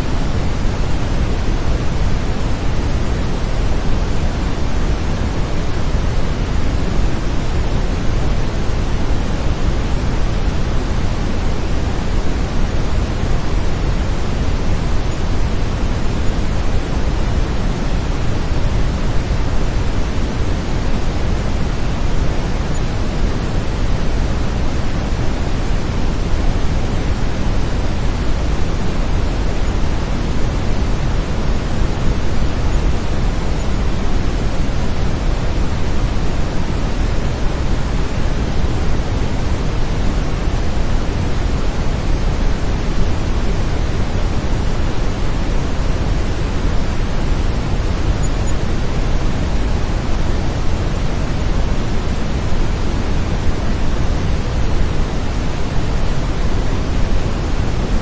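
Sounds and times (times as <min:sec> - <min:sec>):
deep rushing brown noise: 0:00.0 - 0:58.0.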